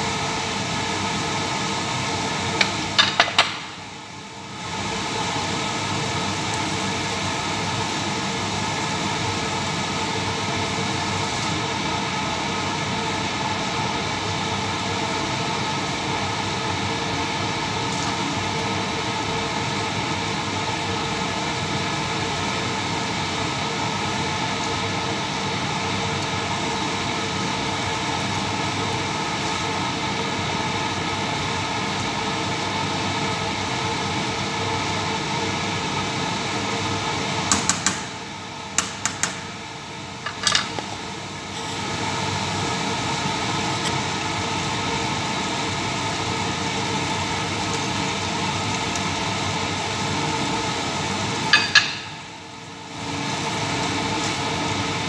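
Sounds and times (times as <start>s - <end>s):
fan-like whooshing with hum: 0.0s - 55.0s.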